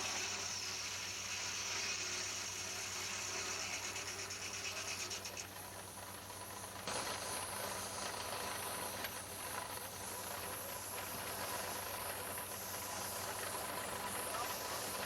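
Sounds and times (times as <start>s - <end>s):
steam engine hissing: 0.0s - 15.0s.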